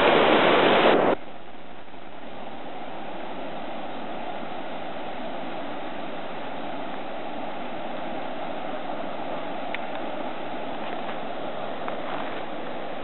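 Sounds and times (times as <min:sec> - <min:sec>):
loud rushing noise: 0:00.0 - 0:13.0
water: 0:00.0 - 0:13.0.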